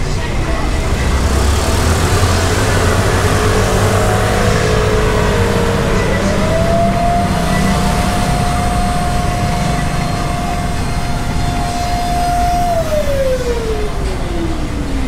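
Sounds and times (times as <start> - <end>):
background rush: 0.0 - 15.0
spinner motor whining: 0.0 - 15.0.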